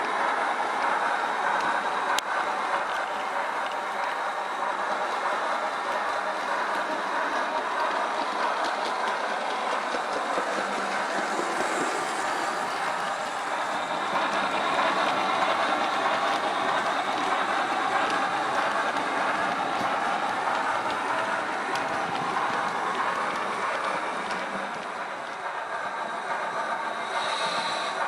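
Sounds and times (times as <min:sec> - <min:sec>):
hissing steam locomotive sound: 0:00.0 - 0:28.0.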